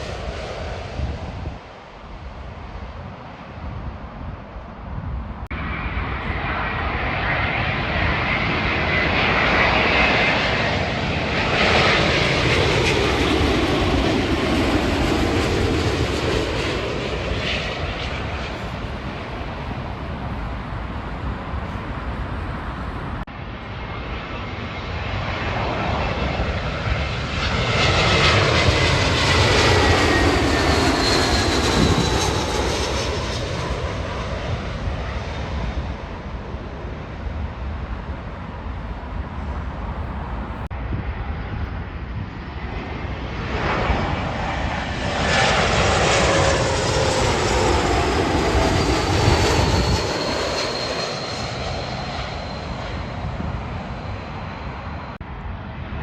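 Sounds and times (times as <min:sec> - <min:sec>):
jet airliner passing: 0:00.0 - 0:56.0
jet engine whine falling in pitch: 0:05.5 - 0:56.0.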